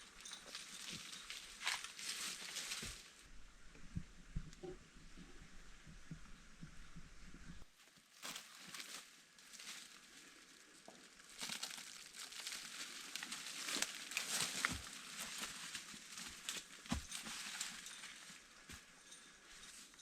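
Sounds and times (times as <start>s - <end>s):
dry rustling and crackling: 0.0s - 6.8s, 7.5s - 20.0s.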